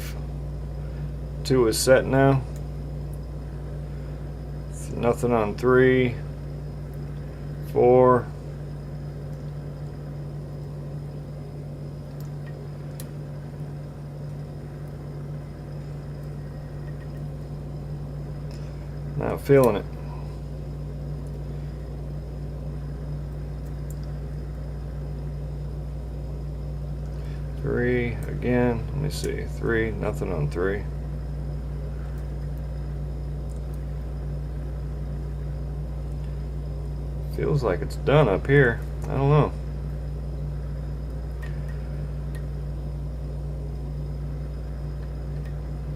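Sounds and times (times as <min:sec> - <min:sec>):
low background hum: 0:00.0 - 0:45.9.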